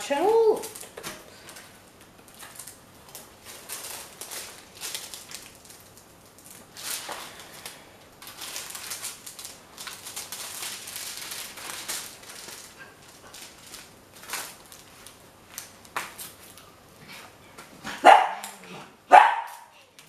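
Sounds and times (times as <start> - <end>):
plastic rustling and crinkling: 0.0 - 18.7.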